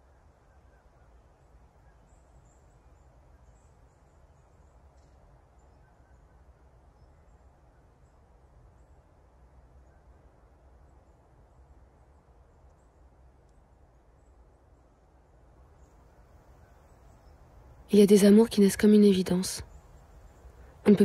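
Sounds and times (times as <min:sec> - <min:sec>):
faint low rumble and hiss: 0:00.0 - 0:21.0.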